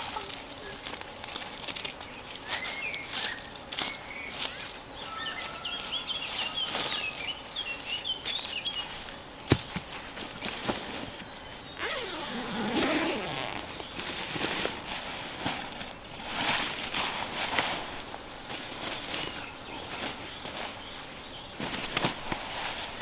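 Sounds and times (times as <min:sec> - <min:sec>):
rustling and handling noise: 0:00.0 - 0:23.0.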